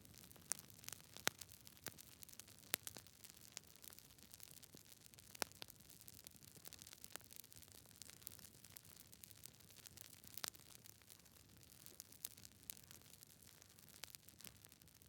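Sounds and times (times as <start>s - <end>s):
fire crackling: 0.0s - 15.0s.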